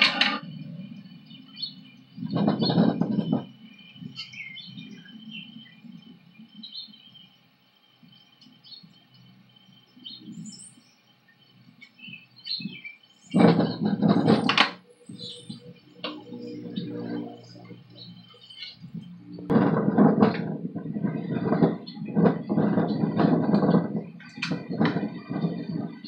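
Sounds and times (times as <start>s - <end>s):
birds chirping faintly: 0.0s - 26.0s
low background rumble: 0.0s - 26.0s.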